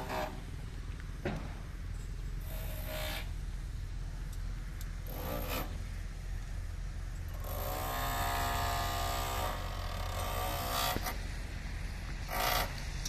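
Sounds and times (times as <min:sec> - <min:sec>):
vehicle engine: 0:00.0 - 0:13.0.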